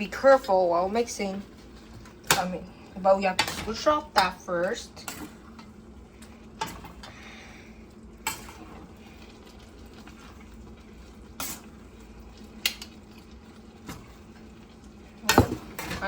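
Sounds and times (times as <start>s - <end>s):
spoon stirring food in a pot: 0.1s - 7.2s, 8.2s - 16.0s.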